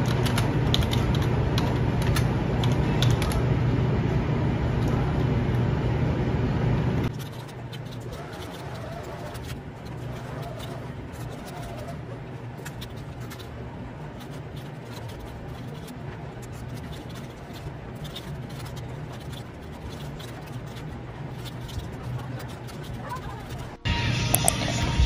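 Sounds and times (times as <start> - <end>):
keyboard typing: 0.0 - 3.5, 7.1 - 24.6
low background hum: 0.0 - 25.0.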